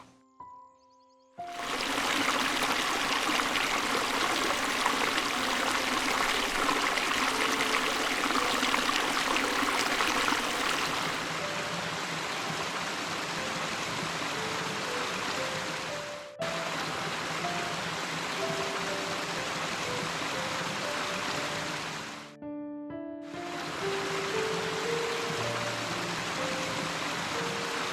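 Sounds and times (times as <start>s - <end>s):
running water rushing and trickling: 1.5s - 22.3s, 23.3s - 27.9s.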